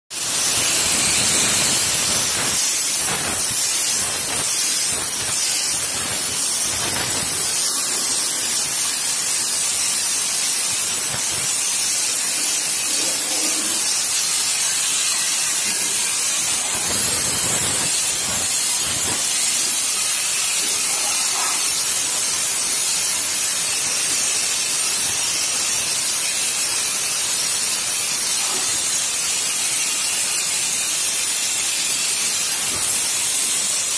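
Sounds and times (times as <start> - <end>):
spray gun hissing: 0.2 - 33.9.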